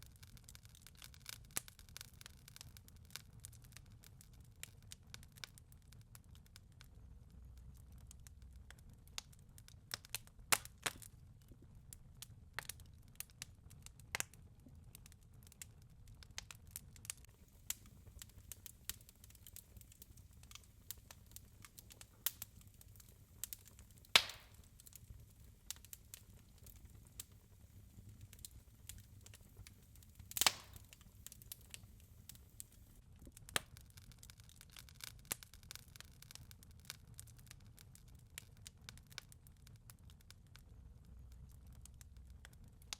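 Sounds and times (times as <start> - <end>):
wood fire crackling: 0.0 - 42.9
fire pops: 7.4 - 42.9.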